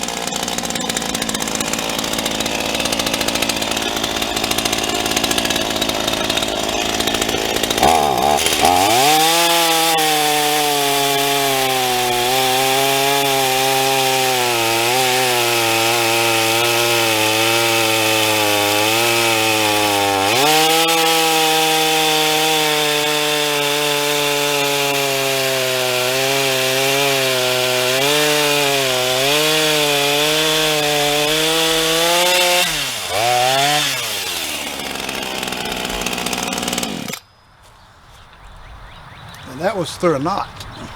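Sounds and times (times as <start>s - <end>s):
chainsaw cutting through log: 0.0s - 37.2s.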